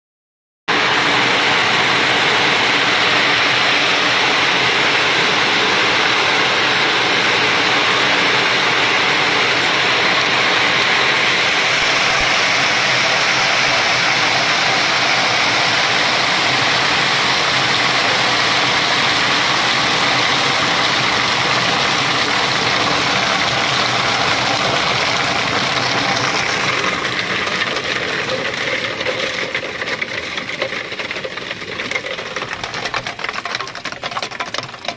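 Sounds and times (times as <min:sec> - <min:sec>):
walnut peeling machine churning: 0:00.7 - 0:34.9.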